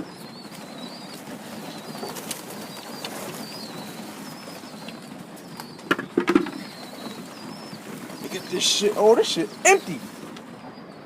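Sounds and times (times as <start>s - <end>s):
birds making low calls: 0.0s - 11.0s
wings fluttering: 0.0s - 11.0s.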